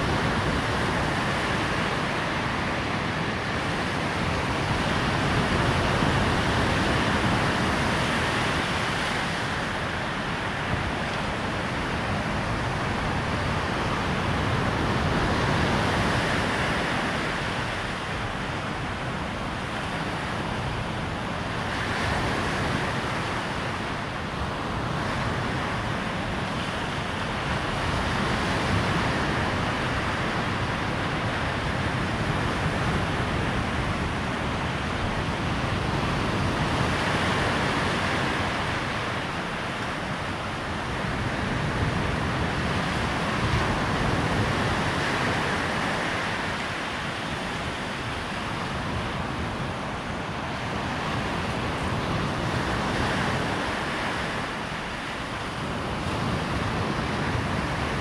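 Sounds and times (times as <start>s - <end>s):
waves breaking on shore: 0.0s - 58.0s
wind: 0.0s - 58.0s.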